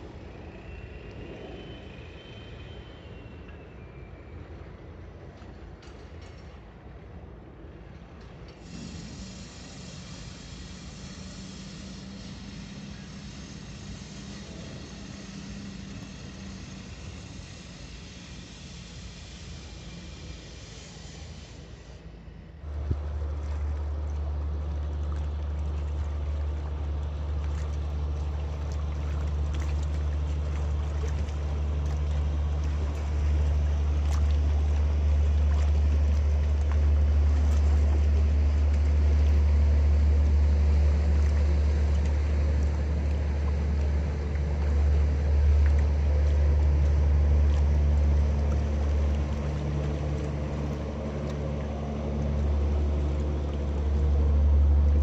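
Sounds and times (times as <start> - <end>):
boat engine drone: 0.0 - 55.0.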